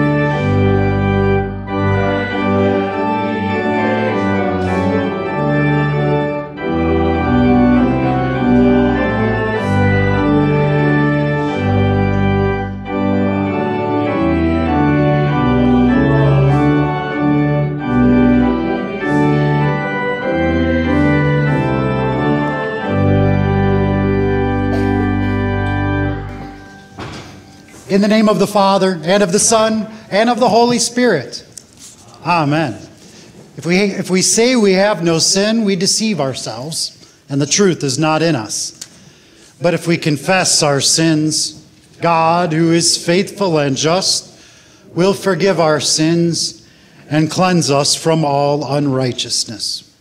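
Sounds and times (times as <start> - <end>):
church organ chords: 0.0 - 49.8.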